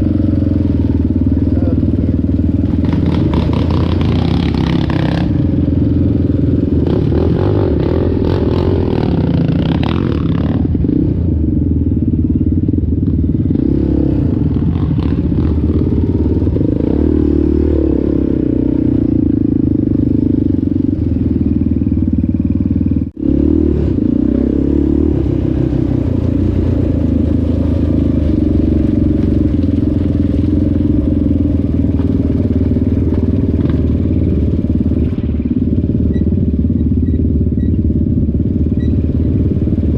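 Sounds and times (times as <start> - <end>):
atv engine running under load: 0.0 - 39.9.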